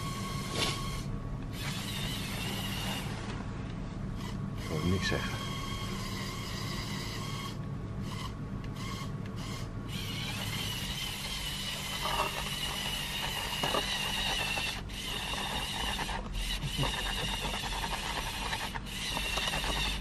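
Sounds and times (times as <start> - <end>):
toy electric motors and gears: 0.0 - 3.2, 4.2 - 20.0
high motor whine: 0.0 - 20.0.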